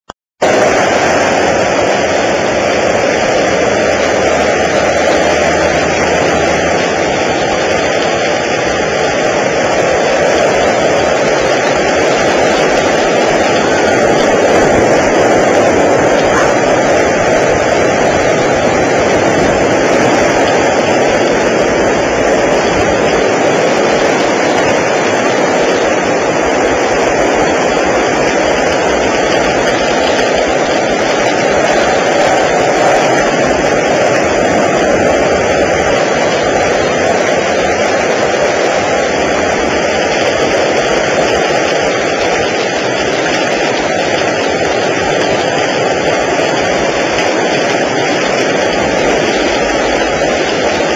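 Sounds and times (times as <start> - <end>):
heavy rain: 0.4 - 50.9
strong wind: 0.4 - 50.9.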